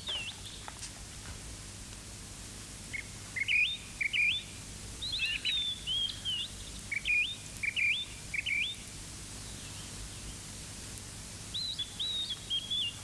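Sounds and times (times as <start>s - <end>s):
small birds chirping: 0.0s - 0.9s, 2.8s - 13.0s.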